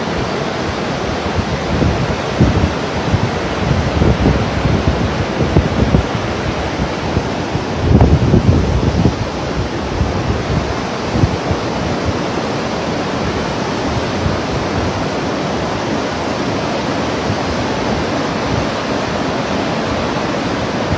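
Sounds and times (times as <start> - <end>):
rain falling steadily: 0.0 - 20.9
wind gusting on microphone: 0.0 - 20.9.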